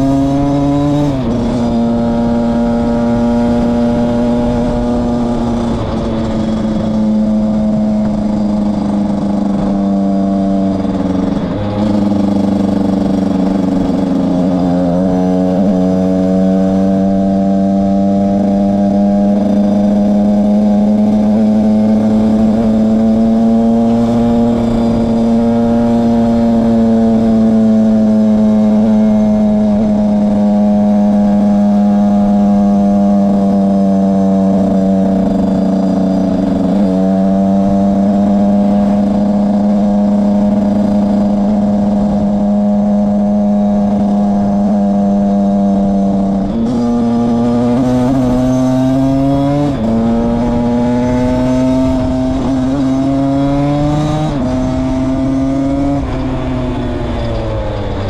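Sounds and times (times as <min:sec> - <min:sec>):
two-stroke motorcycle engine: 0:00.0 - 0:58.0.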